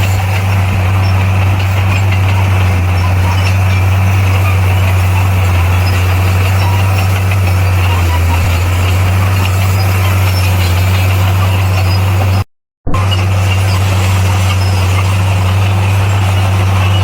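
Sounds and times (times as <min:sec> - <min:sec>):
bulldozer diesel engine drone: 0:00.0 - 0:17.0.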